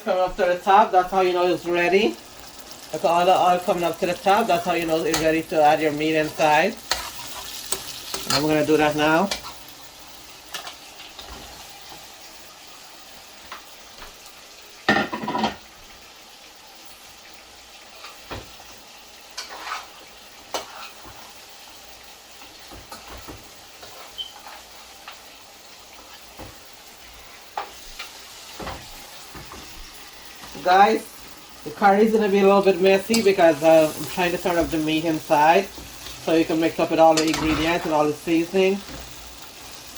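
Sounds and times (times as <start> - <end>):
meat sizzling in a pot: 0.0 - 39.9.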